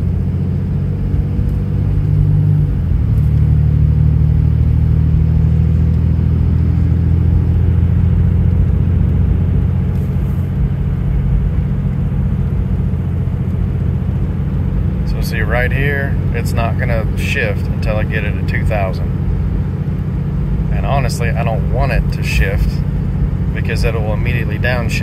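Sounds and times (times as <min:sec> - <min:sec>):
diesel engine drone in cab: 0:00.0 - 0:25.0.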